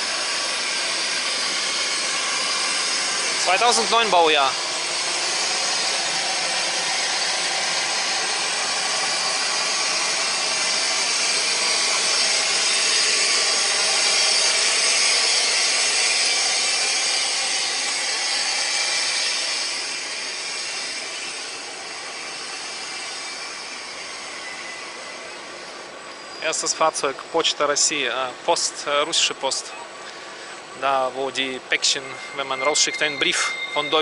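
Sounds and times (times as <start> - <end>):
train hissing: 0.0 - 29.3, 29.9 - 34.0.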